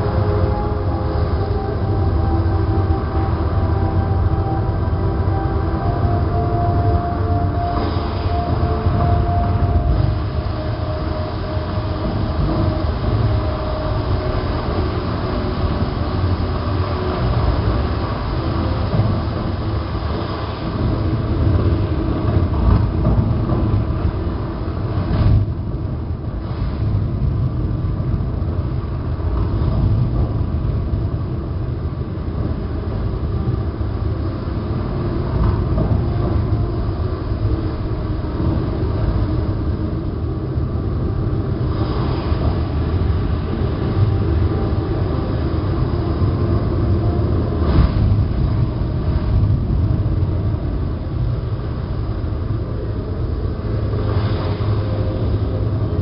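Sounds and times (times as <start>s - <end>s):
faint steady tones: 0.0s - 56.0s
moving vehicle rumble: 0.0s - 56.0s.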